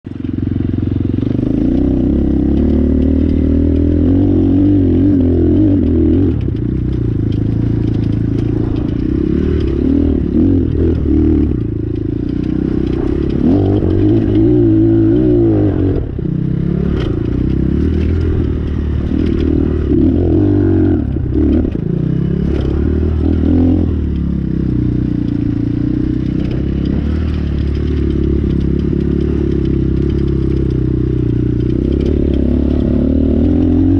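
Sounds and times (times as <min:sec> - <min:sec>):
knocks and clatter over ground: 0:00.1 - 0:33.9
motorcycle engine revving: 0:00.1 - 0:33.9.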